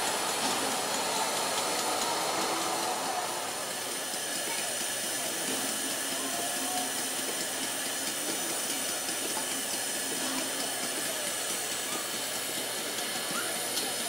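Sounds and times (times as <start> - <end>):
hiss of escaping steam: 0.0 - 14.0.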